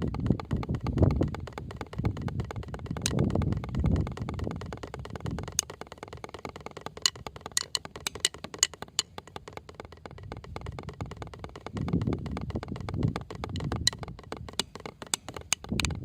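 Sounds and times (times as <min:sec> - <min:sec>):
drumming with light clicky taps: 0:00.0 - 0:16.0.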